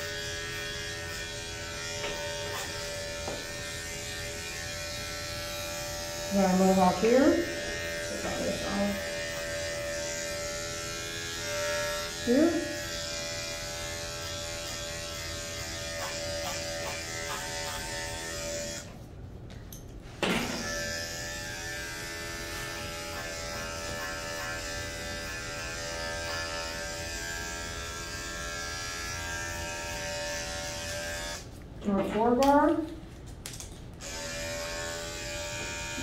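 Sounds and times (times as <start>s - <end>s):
dog clipper buzzing: 0.0s - 19.0s, 20.2s - 32.9s, 34.0s - 36.0s.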